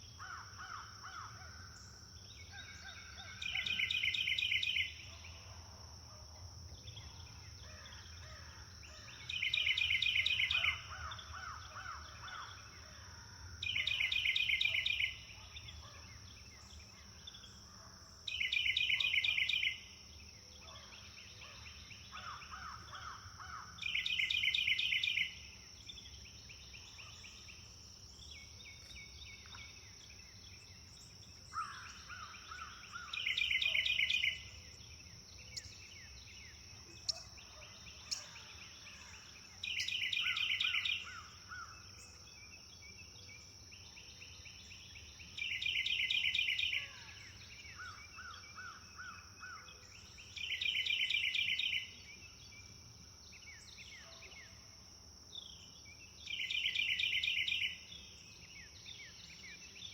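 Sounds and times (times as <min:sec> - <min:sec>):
soft birdsong: 0:06.8 - 0:13.0, 0:13.6 - 0:59.9.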